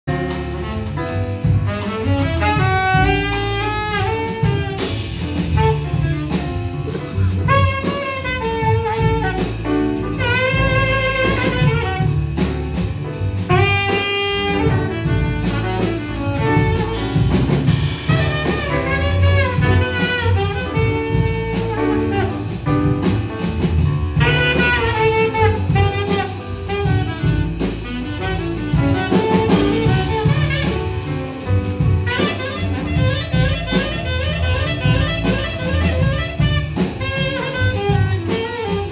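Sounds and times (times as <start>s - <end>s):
double bass: 0.0s - 38.9s
drum kit: 0.0s - 38.9s
alto saxophone solo: 0.1s - 38.9s.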